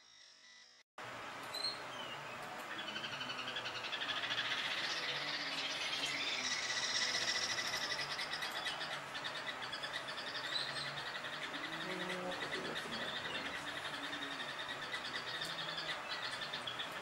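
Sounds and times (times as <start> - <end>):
insects and frogs trilling: 0.0 - 0.8, 2.6 - 17.0
bird chirps: 1.5 - 17.0.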